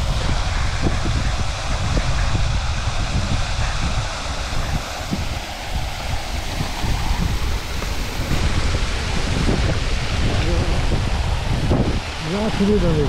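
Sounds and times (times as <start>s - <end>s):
fountain water splashing: 0.0s - 13.0s
wind buffeting microphone: 0.0s - 13.0s.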